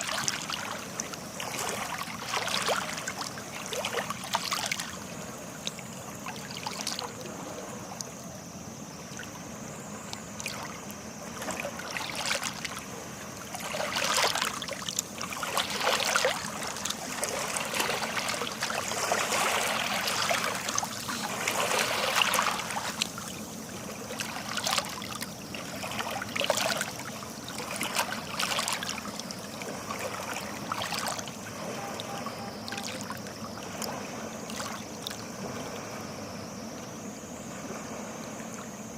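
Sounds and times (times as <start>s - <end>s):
water trickling: 0.0s - 36.8s
sea water lapping at shore: 0.0s - 38.9s.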